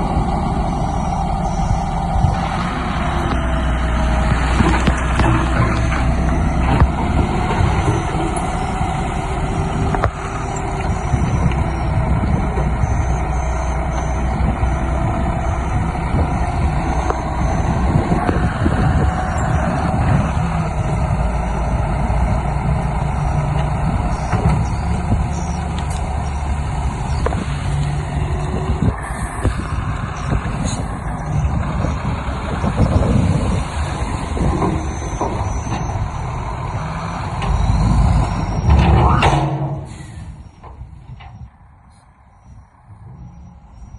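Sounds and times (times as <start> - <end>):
diesel engines rumbling: 0.0 - 43.9.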